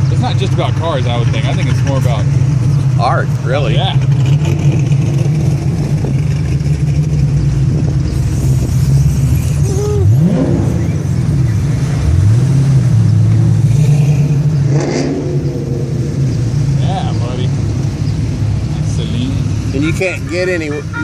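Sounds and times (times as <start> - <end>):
car engines rumbling: 0.0 - 21.0
engine revving: 0.0 - 21.0.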